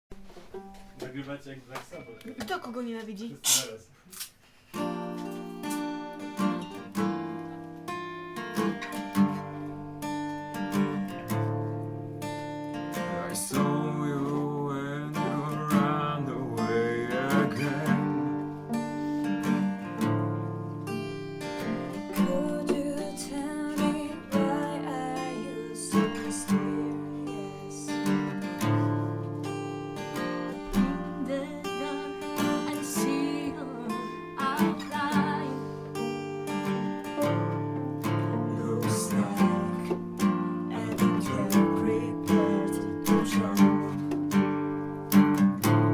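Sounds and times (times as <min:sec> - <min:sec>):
acoustic guitars strumming: 0:00.1 - 0:02.8, 0:04.2 - 0:45.9.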